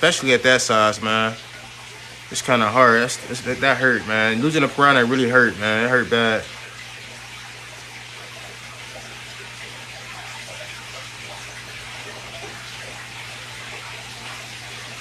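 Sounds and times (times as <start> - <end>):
low steady hum: 0.0 - 15.0
running water hiss: 0.0 - 15.0.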